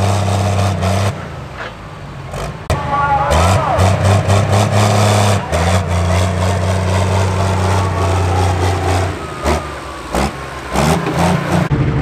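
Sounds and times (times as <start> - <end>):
diesel engine at high revs: 0.0 - 12.0.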